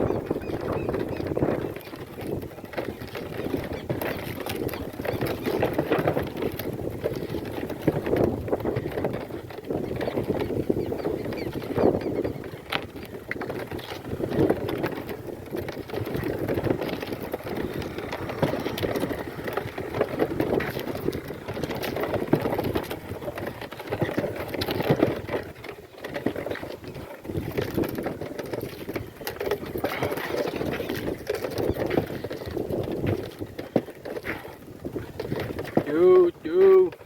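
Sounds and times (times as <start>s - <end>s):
cart rattling: 0.0s - 37.0s
goat hooves clopping: 0.0s - 37.0s.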